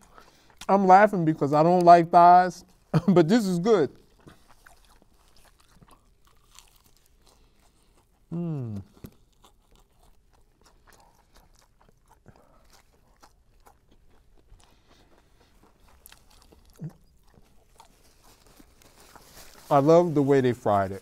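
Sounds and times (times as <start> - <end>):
chewing crunchy fried chicken: 0.0 - 21.0.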